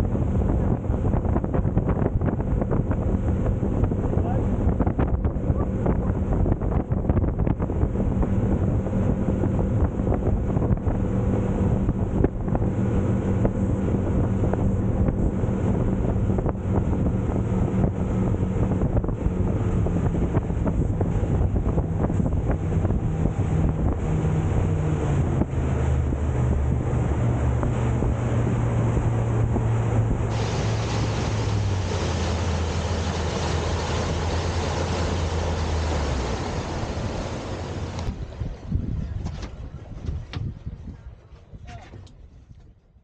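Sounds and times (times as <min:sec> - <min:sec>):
boat engine humming: 0:00.0 - 0:42.6
water noise: 0:00.0 - 0:43.0
wind buffeting microphone: 0:00.0 - 0:43.0.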